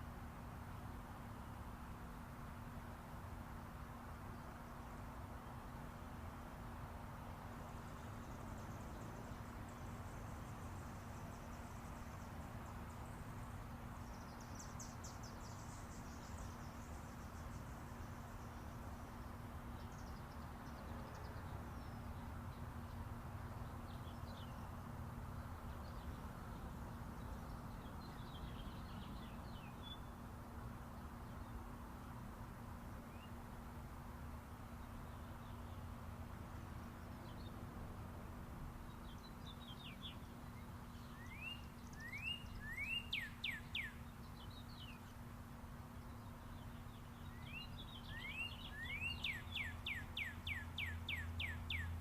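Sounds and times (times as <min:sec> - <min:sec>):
highway traffic rumble: 0:00.0 - 0:52.0
songbirds chirping and trilling: 0:07.2 - 0:32.3, 0:34.5 - 0:52.0.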